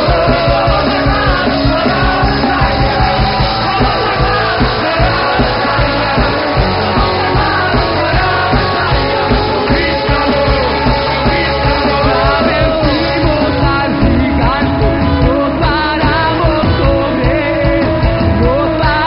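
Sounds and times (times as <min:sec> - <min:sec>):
band playing praise music: 0:00.0 - 0:19.0
drum beat: 0:00.0 - 0:19.0
people singing: 0:00.0 - 0:19.0.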